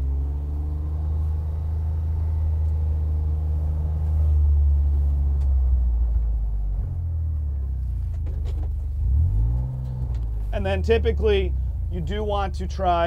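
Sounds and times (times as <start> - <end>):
utility vehicle engine droning: 0.0 - 13.0.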